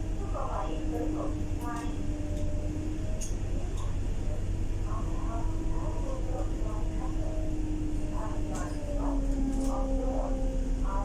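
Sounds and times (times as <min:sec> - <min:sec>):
bus engine drone: 0:00.0 - 0:11.0
passengers' voices: 0:00.0 - 0:11.0.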